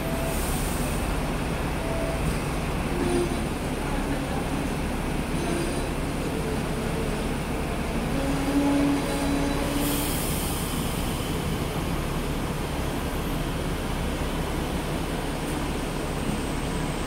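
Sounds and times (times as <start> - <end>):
high squeal of tram: 0.0 - 1.1, 1.7 - 7.3, 8.0 - 14.2, 15.4 - 17.0
tram rumbling on rails: 0.0 - 17.0.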